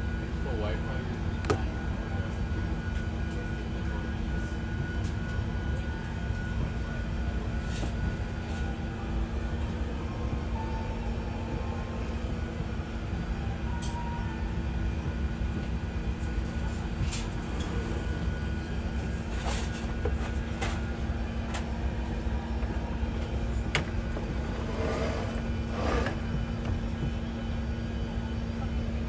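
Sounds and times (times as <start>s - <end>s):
airplane cabin hum and air rush: 0.0s - 29.0s.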